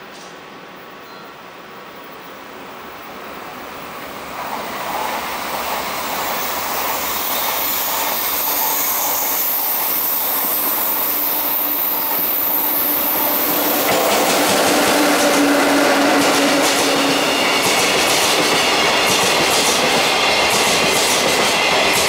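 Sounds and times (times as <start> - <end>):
freight train approaching: 0.0 - 22.0.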